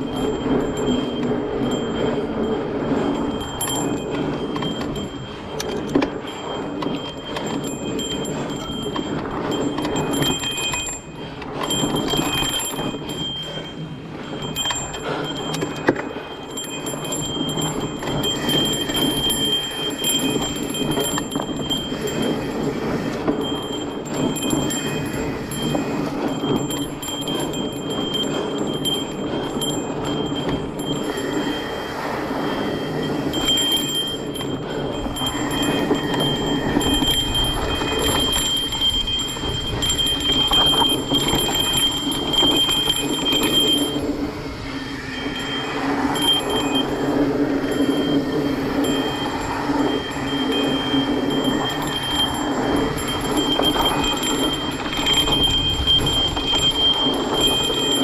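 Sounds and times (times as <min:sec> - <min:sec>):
freewheel hub buzzing: 0:00.0 - 0:58.0.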